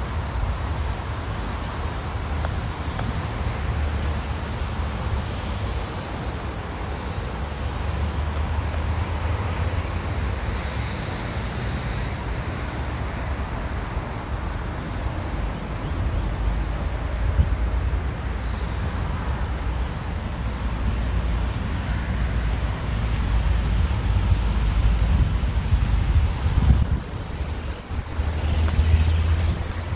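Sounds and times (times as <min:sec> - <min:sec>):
cars passing: 0:00.0 - 0:29.9
road traffic hum: 0:00.0 - 0:29.9.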